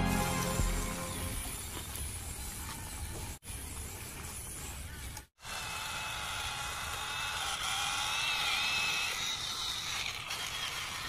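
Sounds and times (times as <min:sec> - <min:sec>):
toy electric motor whirring: 0:01.4 - 0:11.0.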